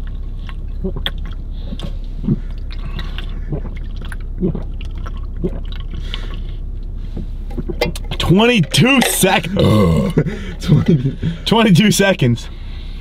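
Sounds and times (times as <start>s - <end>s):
man gulping juice: 0.0s - 11.4s
steady low hum: 0.0s - 13.0s.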